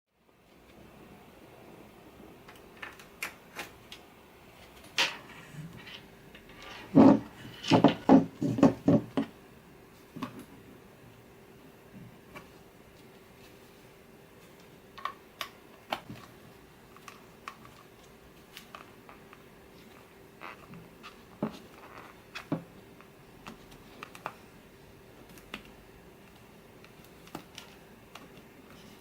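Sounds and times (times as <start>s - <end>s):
faint steady hum: 0.1s - 29.0s.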